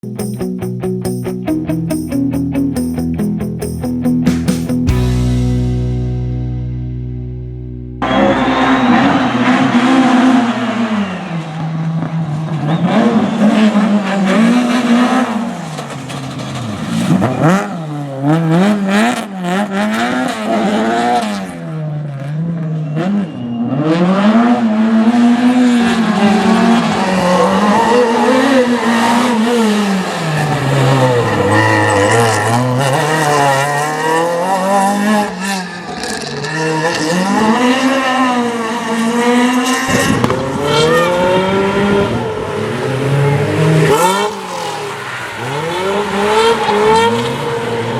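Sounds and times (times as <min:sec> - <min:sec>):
rally car engine revving: 0:04.3 - 0:47.9.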